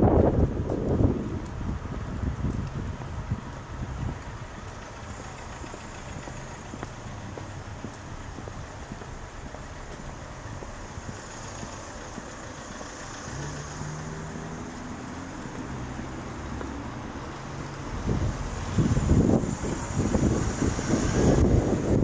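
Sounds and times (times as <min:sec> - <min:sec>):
car engine humming: 0:00.0 - 0:22.0.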